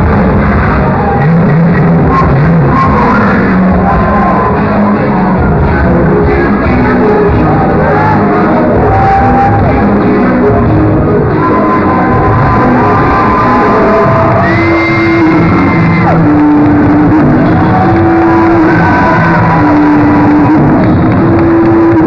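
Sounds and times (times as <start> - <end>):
loud rock music: 0.0 - 22.0.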